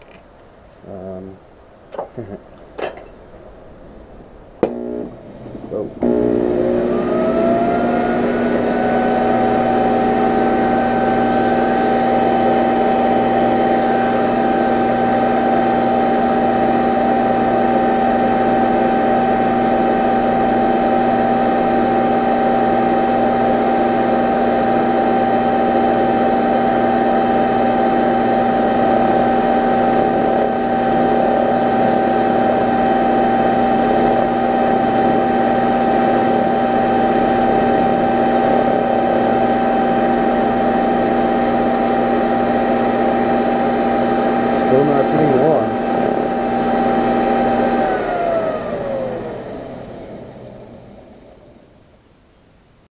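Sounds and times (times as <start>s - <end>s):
metal lathe whining: 4.6s - 51.4s.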